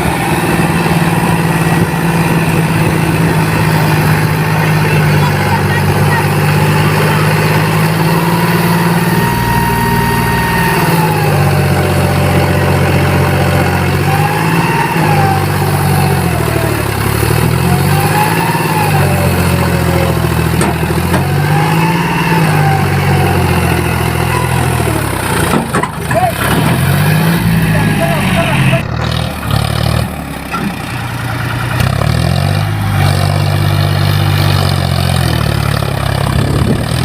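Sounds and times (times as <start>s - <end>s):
tractor diesel engine revving: 0.0s - 37.0s.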